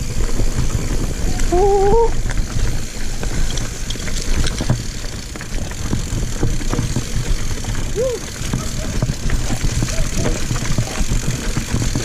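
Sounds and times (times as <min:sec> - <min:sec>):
bike rattling over rocks: 0:00.0 - 0:12.0
wind rumbling on microphone: 0:00.0 - 0:12.0.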